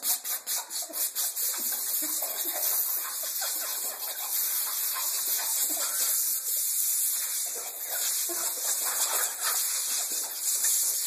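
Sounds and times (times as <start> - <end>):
compressed air hissing from nozzle: 0.0 - 11.0.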